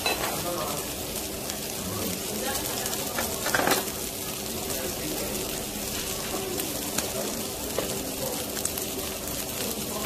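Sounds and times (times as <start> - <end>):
meat sizzling on griddle: 0.0 - 10.0.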